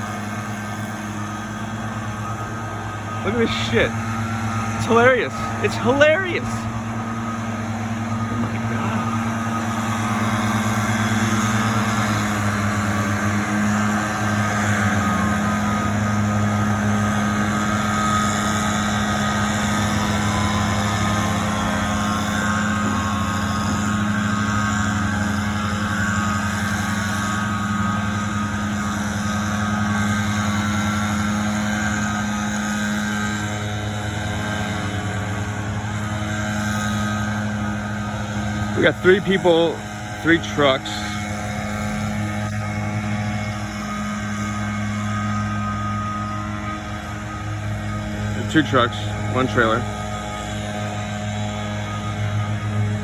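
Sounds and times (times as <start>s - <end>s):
distant engines rising and falling: 0.0s - 53.0s
leaf blower engines droning: 0.0s - 53.0s.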